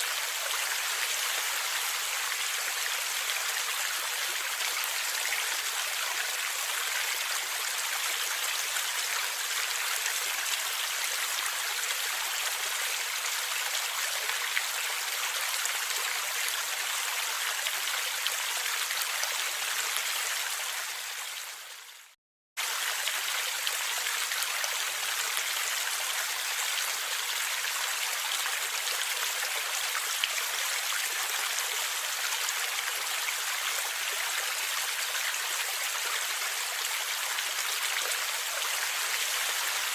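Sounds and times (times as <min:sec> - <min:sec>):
stream water gurgling: 0:00.0 - 0:39.9.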